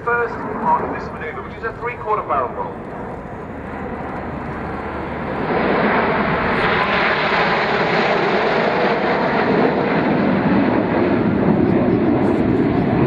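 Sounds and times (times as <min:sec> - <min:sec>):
jet aircraft flying past: 0:00.0 - 0:13.0.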